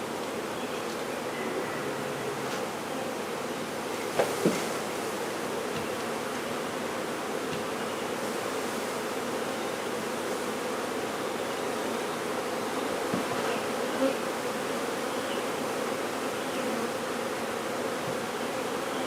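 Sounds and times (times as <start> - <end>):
bee swarm buzzing: 1.2 - 19.0.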